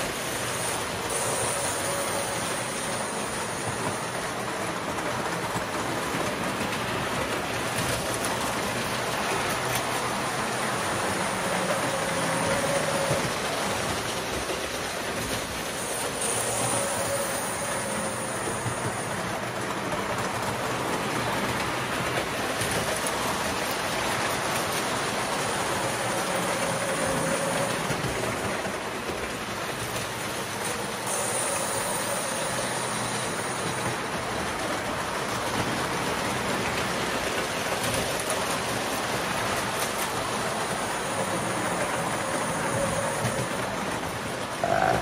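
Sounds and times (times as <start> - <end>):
toy trains rattling on metal track: 0.0 - 45.0.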